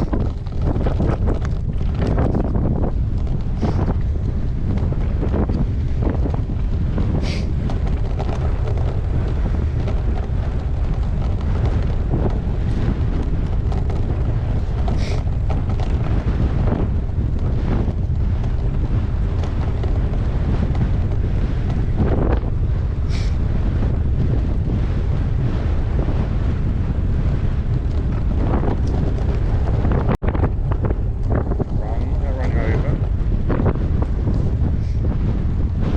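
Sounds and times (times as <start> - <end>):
bicycle clicks and rattles: 0.0 - 35.9
wind buffeting microphone: 0.0 - 35.9.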